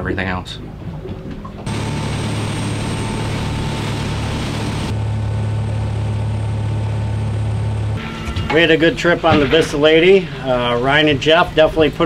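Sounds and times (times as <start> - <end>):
boat engine drone: 0.0 - 12.0
water and wind rushing along hull: 0.0 - 12.0.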